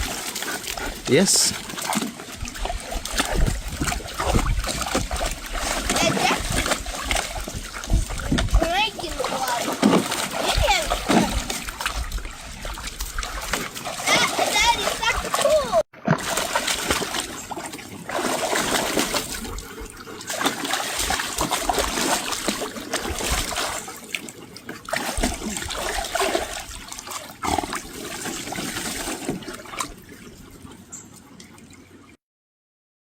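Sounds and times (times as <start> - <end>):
pool water splashing: 0.0 - 32.2.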